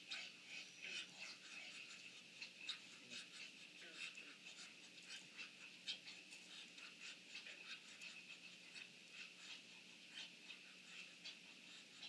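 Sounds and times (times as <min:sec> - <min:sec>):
ducks calling softly: 0:00.0 - 0:12.0.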